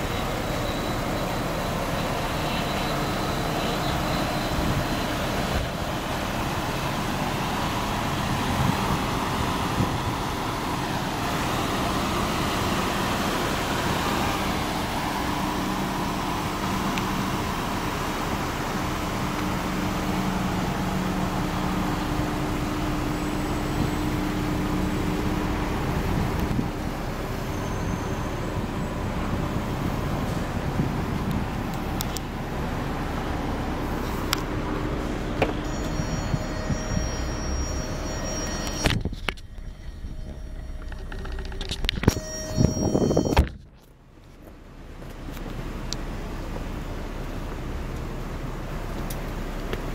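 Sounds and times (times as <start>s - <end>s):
motor vehicle noise: 0.0s - 49.9s.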